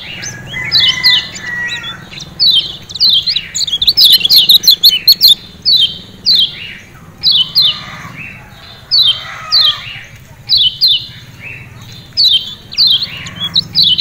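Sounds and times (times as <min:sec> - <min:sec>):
bird sharp chirping calls: 0:00.0 - 0:14.0.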